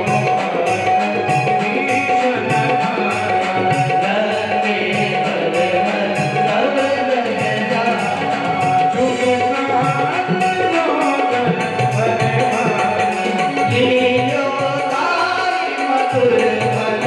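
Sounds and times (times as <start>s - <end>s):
harmonium: 0.0s - 17.0s
man singing: 0.0s - 17.0s
tabla rhythm: 0.0s - 17.0s.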